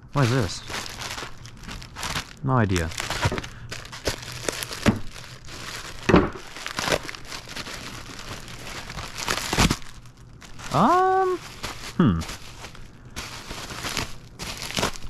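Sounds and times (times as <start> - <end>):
plastic packaging crinkling: 0.1 - 15.0.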